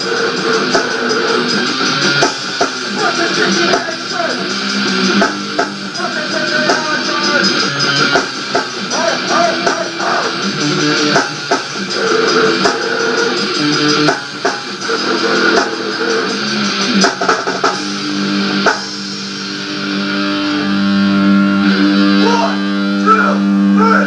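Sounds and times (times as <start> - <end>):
drum kit: 0.0 - 23.9
strummed electric guitar: 0.0 - 24.0.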